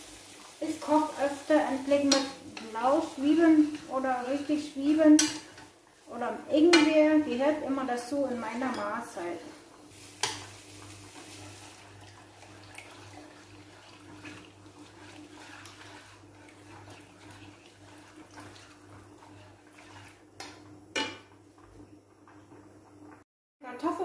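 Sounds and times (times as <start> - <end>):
chopsticks stirring in pan: 0.0 - 21.3.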